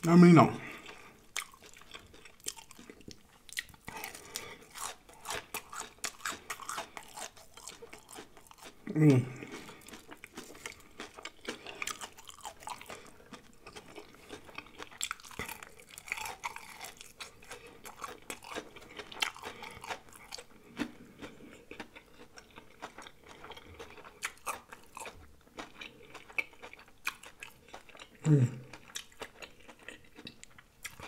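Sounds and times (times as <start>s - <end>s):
chewing and crunching fried food: 0.0s - 31.0s.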